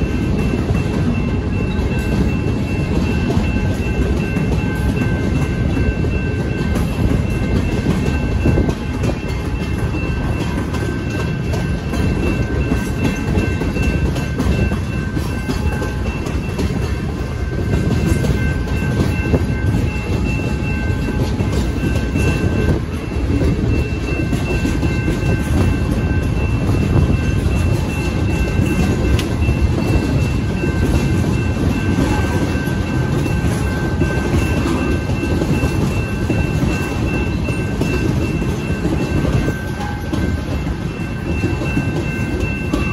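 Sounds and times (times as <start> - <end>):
crossing warning bell ringing: 0.0 - 42.9
train wheels rumbling over rails: 0.0 - 42.9.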